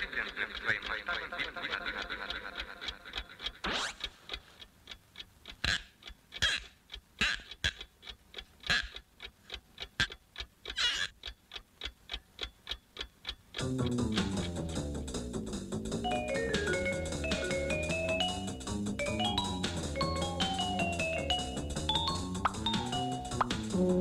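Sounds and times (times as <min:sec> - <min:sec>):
alarm clock ticking: 0:00.0 - 0:24.0.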